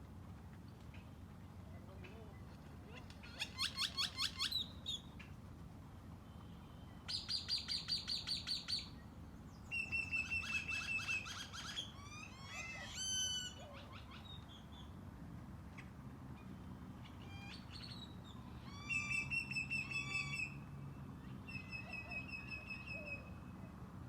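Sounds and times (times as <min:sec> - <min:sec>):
songbirds trilling chirps: 0:00.6 - 0:05.4, 0:06.1 - 0:15.0, 0:15.7 - 0:23.9.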